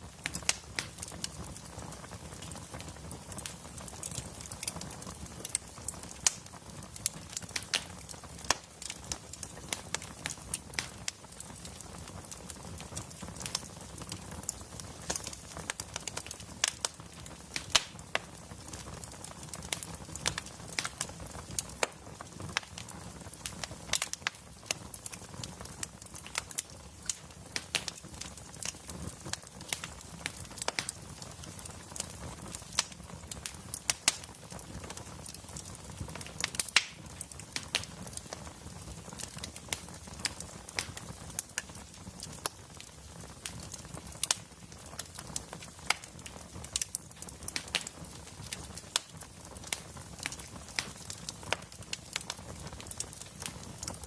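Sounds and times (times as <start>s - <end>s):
flames rumbling: 0.0s - 54.0s
wood fire crackling: 0.0s - 54.0s.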